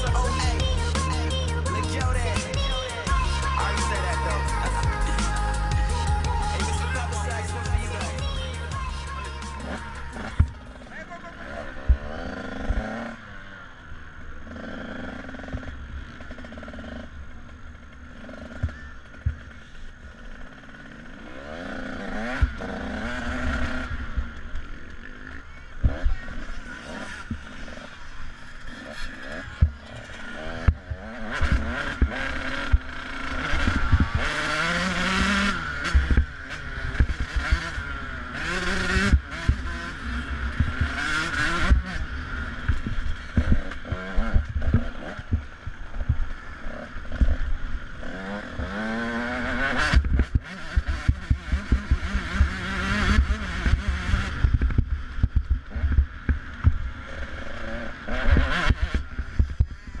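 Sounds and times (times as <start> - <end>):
off-road motorcycle engine revving: 0.0 - 60.0.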